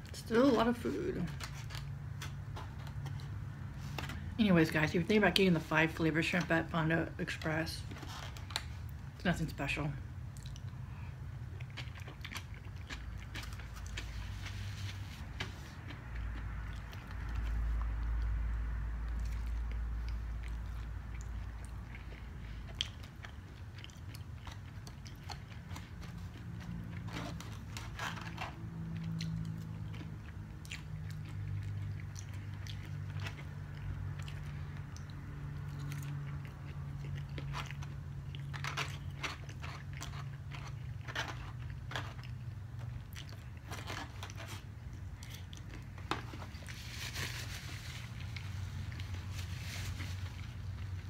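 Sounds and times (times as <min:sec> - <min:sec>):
person chewing crunchy food: 0:10.1 - 0:51.0.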